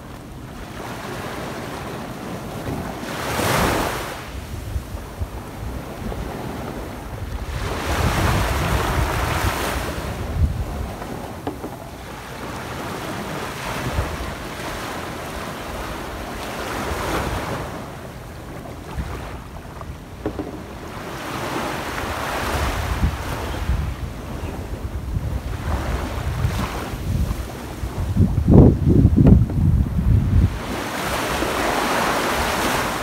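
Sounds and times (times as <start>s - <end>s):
small waves washing on beach: 0.0s - 33.0s
wind buffeting microphone: 0.0s - 33.0s.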